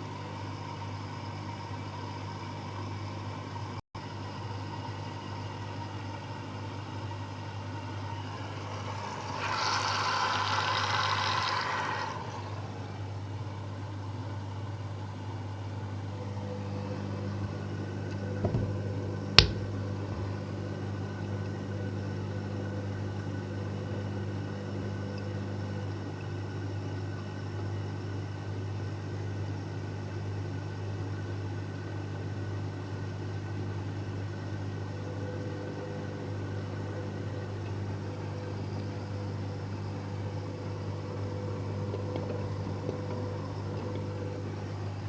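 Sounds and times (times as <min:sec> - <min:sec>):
washing machine motor hum: 0:02.1 - 0:45.0.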